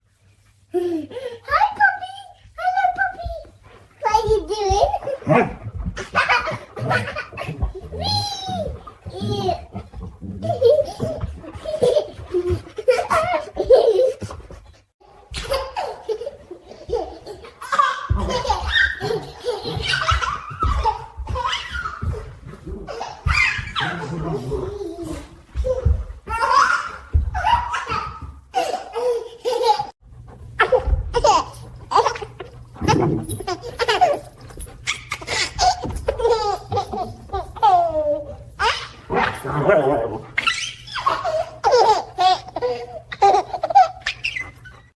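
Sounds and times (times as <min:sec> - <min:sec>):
baby laughing: 0:04.0 - 0:14.4, 0:15.3 - 0:30.0, 0:30.6 - 0:44.9.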